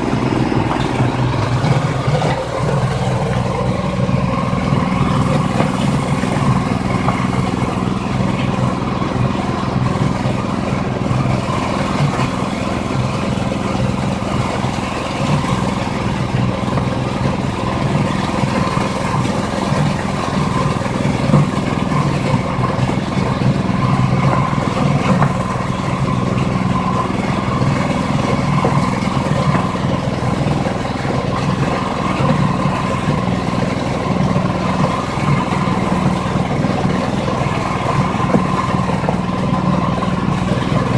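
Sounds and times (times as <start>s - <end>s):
feed blender machine drone: 0.0s - 40.9s.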